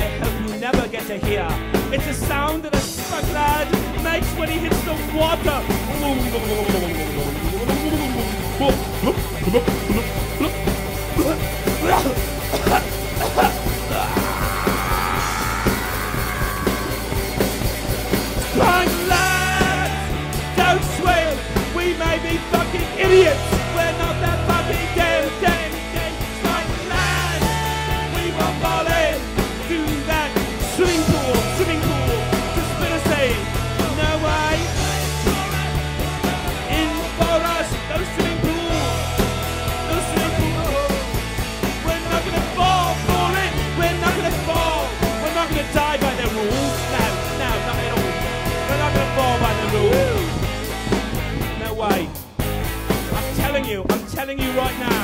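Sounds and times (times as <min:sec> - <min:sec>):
bass line: 0:00.0 - 0:55.0
drums: 0:00.0 - 0:55.0
rock song singing: 0:00.0 - 0:55.0.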